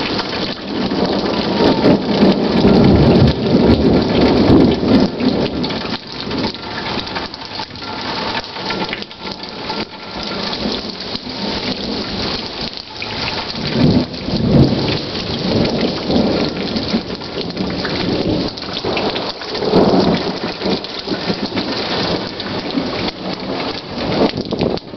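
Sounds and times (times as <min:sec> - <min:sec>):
steady rain: 0:00.0 - 0:24.9
thunder rumbling: 0:00.0 - 0:24.9.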